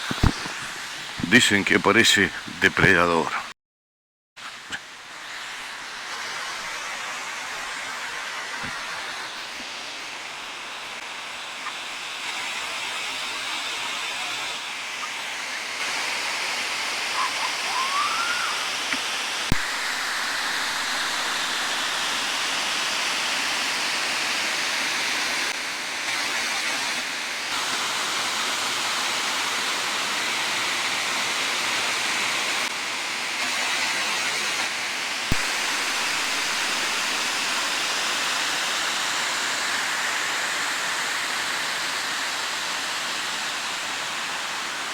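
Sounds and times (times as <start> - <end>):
waterfall rushing: 0.0 - 3.3, 4.5 - 44.9.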